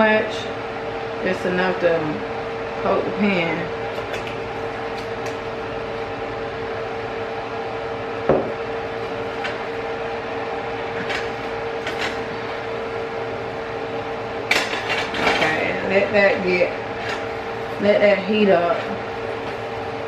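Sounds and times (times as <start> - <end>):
kitchen appliance hum: 0.0 - 20.0.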